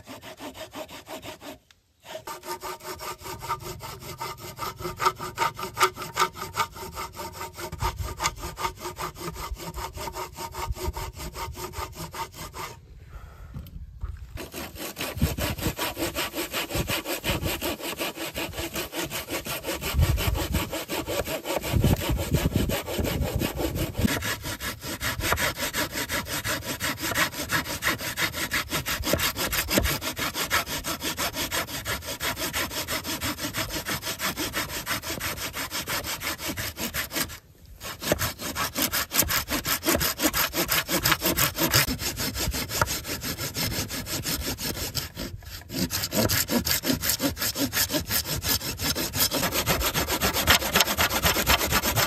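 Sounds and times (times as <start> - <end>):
hand saw cutting wood: 0.0 - 12.8, 14.3 - 52.0.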